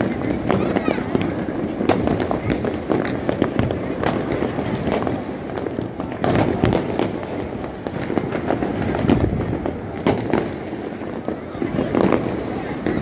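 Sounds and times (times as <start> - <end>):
firecrackers cracking and popping: 0.0 - 13.0.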